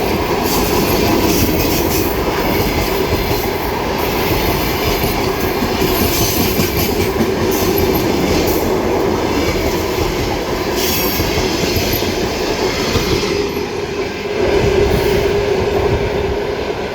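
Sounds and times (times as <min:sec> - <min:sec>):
train wheels rolling on rails: 0:00.0 - 0:16.9.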